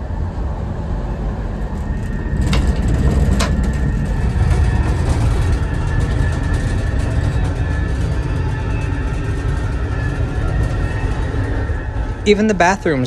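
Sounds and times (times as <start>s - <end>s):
train car rumble: 0.0s - 13.0s.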